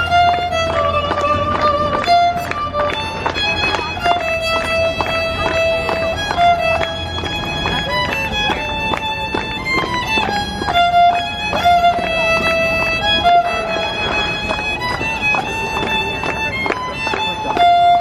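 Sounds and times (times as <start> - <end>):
fiddle playing lively melody: 0.0 - 18.0.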